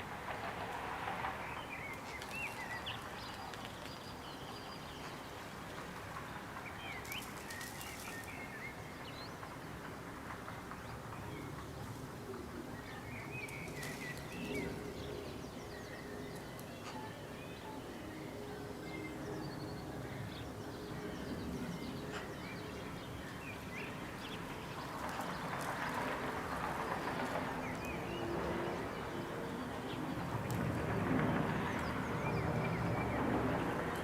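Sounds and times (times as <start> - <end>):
birds chirping: 1.3 - 34.0.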